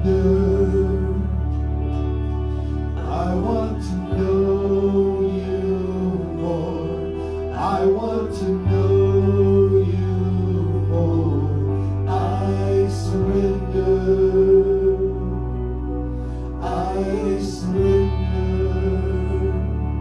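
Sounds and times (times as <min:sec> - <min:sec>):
wordless vocal phrases: 0:00.0 - 0:01.8, 0:03.0 - 0:20.0
person singing: 0:00.0 - 0:20.0
slow worship music: 0:00.0 - 0:20.0.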